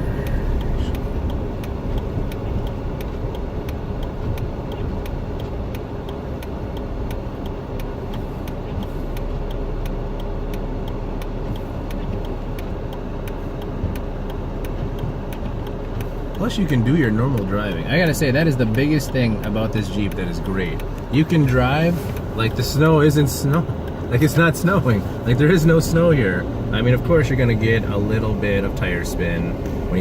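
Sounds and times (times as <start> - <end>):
engine and tyre rumble: 0.0 - 30.0
light even ticking: 0.0 - 30.0.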